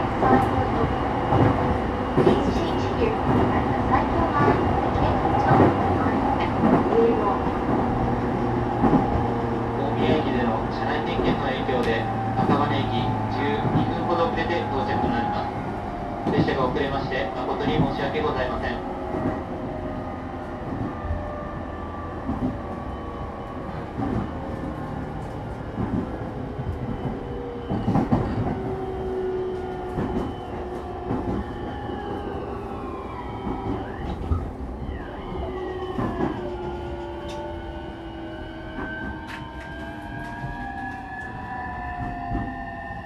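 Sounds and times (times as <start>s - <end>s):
train running rumble: 0.0s - 34.7s.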